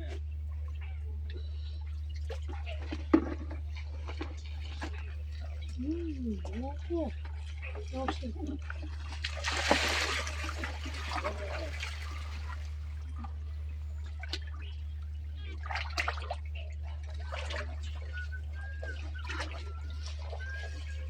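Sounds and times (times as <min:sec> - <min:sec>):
steady low hum: 0:00.0 - 0:21.0
floodwater splashing and trickling: 0:00.8 - 0:21.0.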